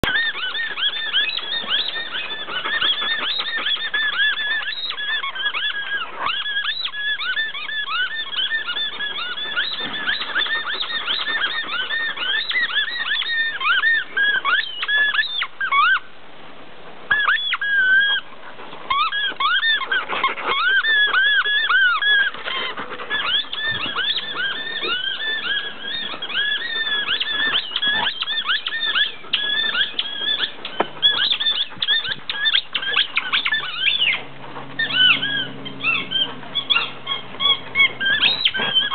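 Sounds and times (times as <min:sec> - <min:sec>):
dog chewing: 0:00.0 - 0:15.3, 0:17.6 - 0:38.9
squeaky dog toy squeaking: 0:00.0 - 0:16.0, 0:17.1 - 0:18.2, 0:18.9 - 0:38.9.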